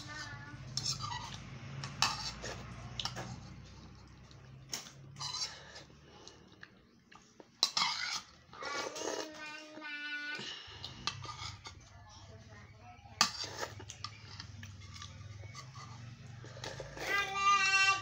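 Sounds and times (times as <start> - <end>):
eating sounds: 0.0 - 11.8, 13.2 - 17.3.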